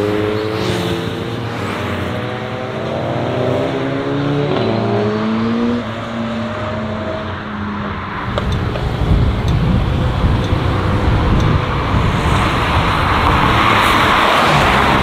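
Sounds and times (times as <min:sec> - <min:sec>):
cars accelerating with exhaust rumble: 0:00.0 - 0:15.0.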